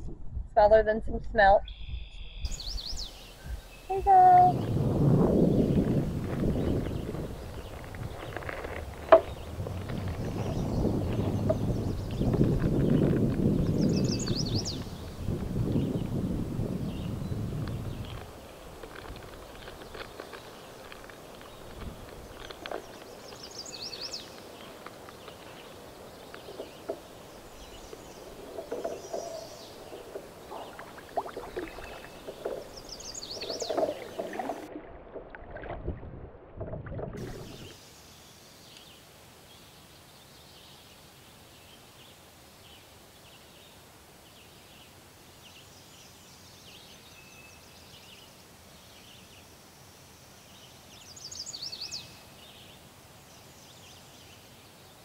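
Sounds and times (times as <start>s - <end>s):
songbirds chirping: 0.6s - 34.8s, 37.2s - 55.0s.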